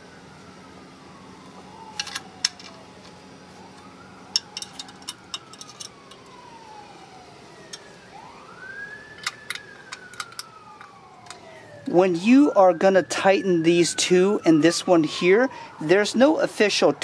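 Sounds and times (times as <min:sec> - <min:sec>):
distant siren wailing: 0:00.0 - 0:17.0.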